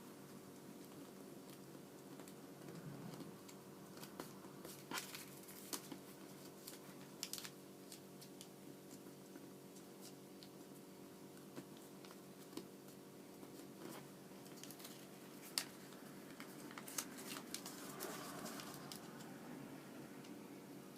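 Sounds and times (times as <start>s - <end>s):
low steady hum: 0.0s - 20.9s
paper rustling and crackling: 0.7s - 19.3s.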